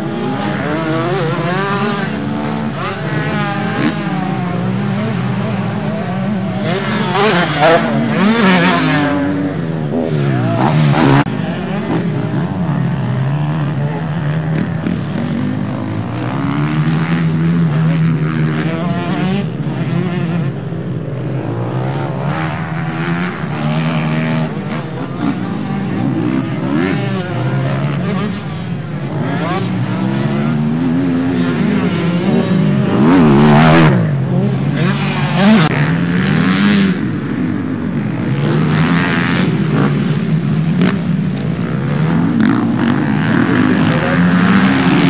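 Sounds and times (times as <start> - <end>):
motocross bikes revving: 0.0 - 45.0.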